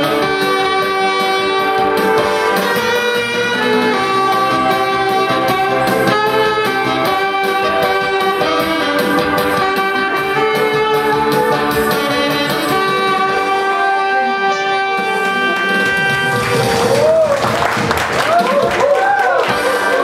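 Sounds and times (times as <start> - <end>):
backing track with steady beat: 0.0 - 17.3
saxophone melody: 0.0 - 17.3.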